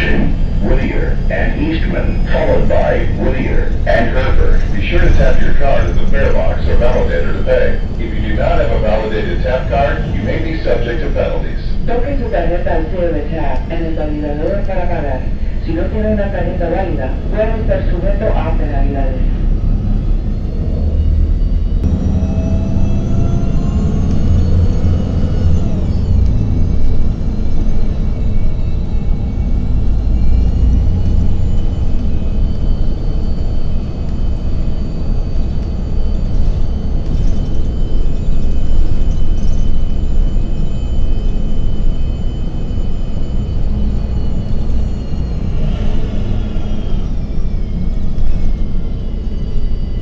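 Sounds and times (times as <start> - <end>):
bus engine rumble: 0.0 - 50.0
drivetrain whine: 0.0 - 50.0.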